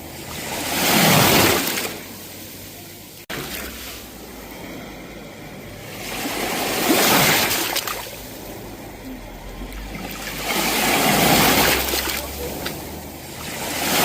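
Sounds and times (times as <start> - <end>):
sea waves breaking: 0.0 - 14.0.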